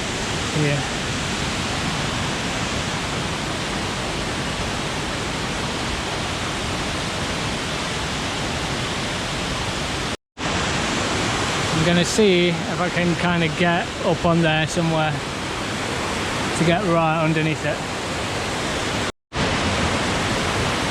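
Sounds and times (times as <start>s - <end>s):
waterfall roaring: 0.0s - 20.9s.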